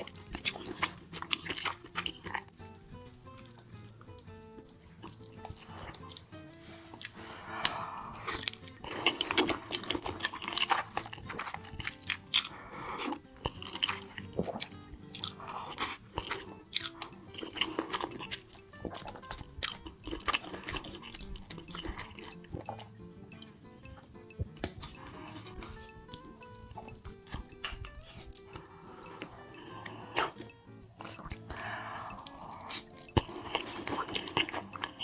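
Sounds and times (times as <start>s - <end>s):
faint background music: 0.0s - 35.0s
mouth smacks: 0.0s - 35.0s
slurping: 0.0s - 35.0s
wet chewing: 0.0s - 35.0s.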